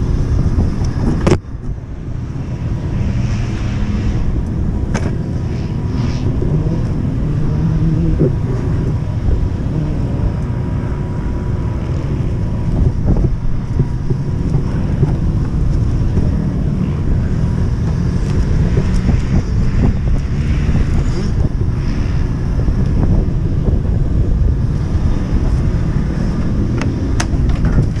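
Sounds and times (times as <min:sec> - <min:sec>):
wind buffeting on microphone: 0:00.0 - 0:28.0.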